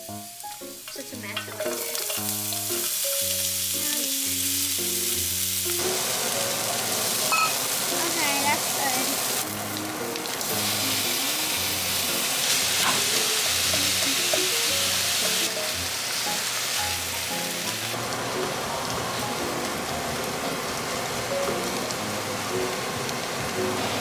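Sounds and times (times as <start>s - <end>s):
food sizzling in skillet: 0.0s - 24.0s
light background music: 0.0s - 24.0s.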